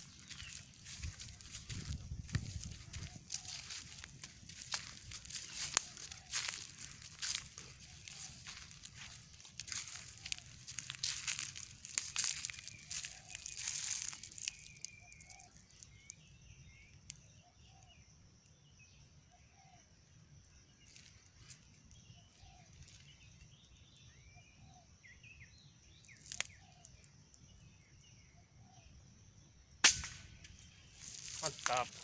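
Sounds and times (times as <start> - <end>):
small birds chirping: 0.0 - 29.4, 30.2 - 32.0.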